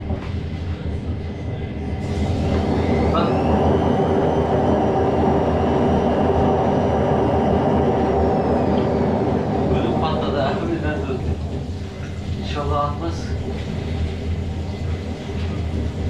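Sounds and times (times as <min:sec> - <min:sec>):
washing machine hum and whine: 0:00.0 - 0:16.0.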